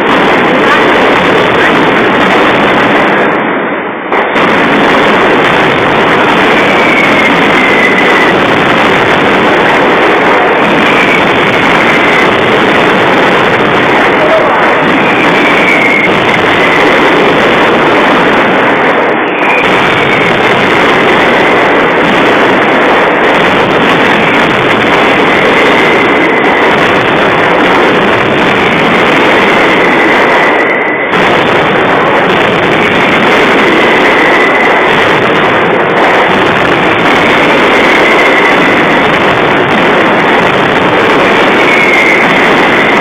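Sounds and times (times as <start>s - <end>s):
firecrackers rattling: 0.0s - 43.0s.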